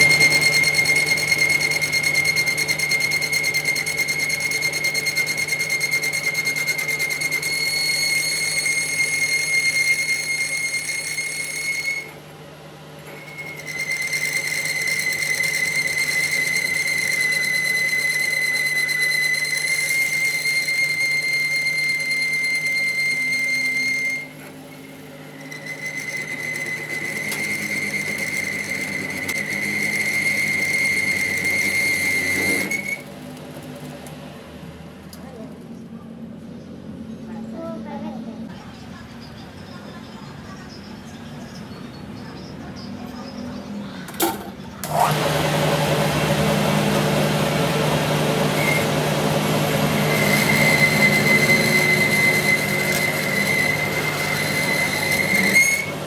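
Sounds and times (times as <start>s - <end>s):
lathe cutting steel squealing: 0.0s - 34.5s, 39.0s - 56.0s
machine low hum: 0.0s - 56.0s.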